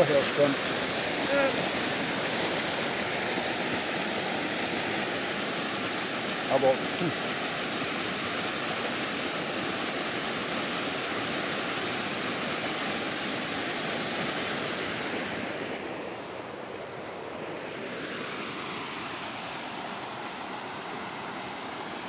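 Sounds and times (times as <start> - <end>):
waterfall splashing over rock: 0.0 - 22.0.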